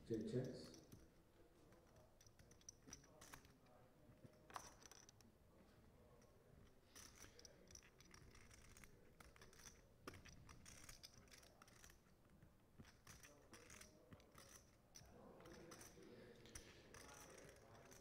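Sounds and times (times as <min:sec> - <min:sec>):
clay poker chips clicking: 0:01.8 - 0:05.2, 0:06.2 - 0:18.0.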